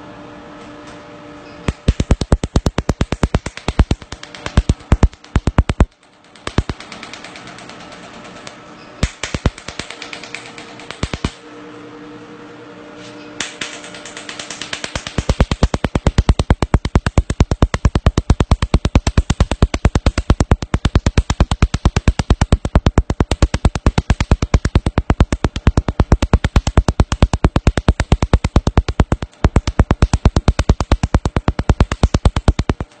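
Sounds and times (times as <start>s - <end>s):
machine humming: 1.5s - 33.0s
laser snapping clicks: 1.7s - 11.4s, 13.4s - 33.0s.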